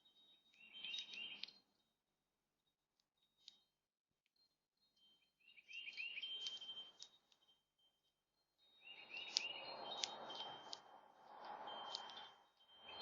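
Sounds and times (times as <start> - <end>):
songbird chirping: 0.0 - 3.7, 4.4 - 13.0.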